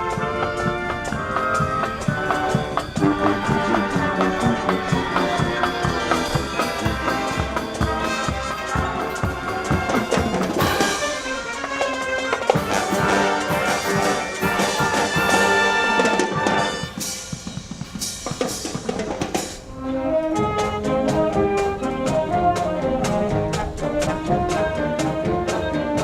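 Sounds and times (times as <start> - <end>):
drum kit and percussion: 0.0 - 19.8, 20.4 - 26.0
brass band playing: 0.0 - 26.0.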